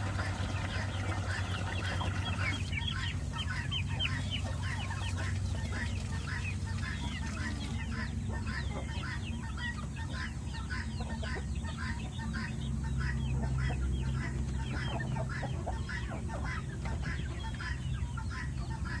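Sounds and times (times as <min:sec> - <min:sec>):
chickens calling: 0:00.0 - 0:19.0.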